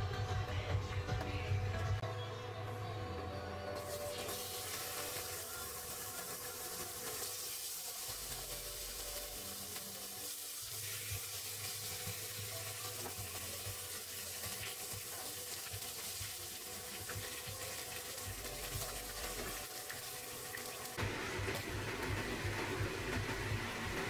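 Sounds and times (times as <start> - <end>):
meat sizzling in hot oil: 3.8 - 24.0.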